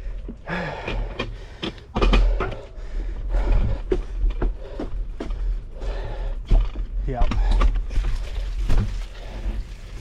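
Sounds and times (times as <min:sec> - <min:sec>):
bicycle rattling over rough trail: 0:00.0 - 0:10.0.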